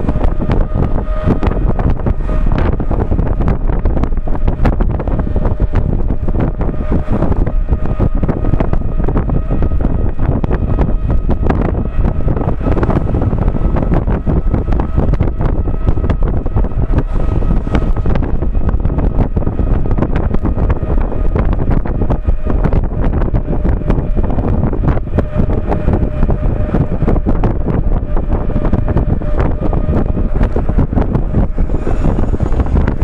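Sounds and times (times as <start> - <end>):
faint constant whine: 0.0 - 33.0
tire rolling on pavement: 0.0 - 33.0
wind buffeting microphone: 0.0 - 33.0.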